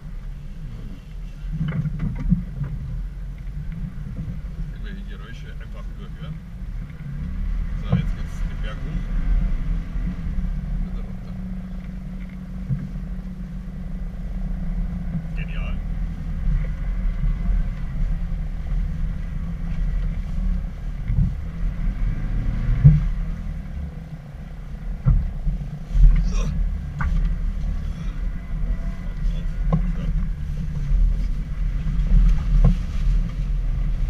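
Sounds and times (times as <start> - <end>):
car engine low rumble: 0.0 - 34.0
knocks and thumps over rough ground: 1.4 - 5.2, 5.9 - 13.3, 14.6 - 34.0.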